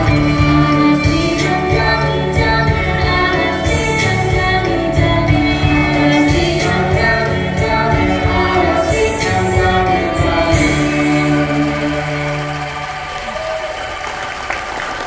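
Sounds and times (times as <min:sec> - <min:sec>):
group singing in chorus: 0:00.0 - 0:13.1
rhythmic accompaniment: 0:00.0 - 0:14.8.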